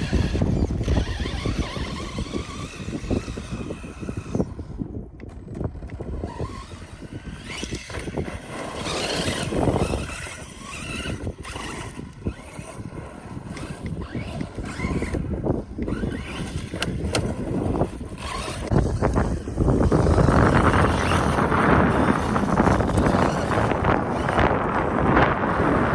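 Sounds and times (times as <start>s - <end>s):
electric motor whining: 0.0s - 25.9s
wind buffeting microphone: 0.0s - 25.9s.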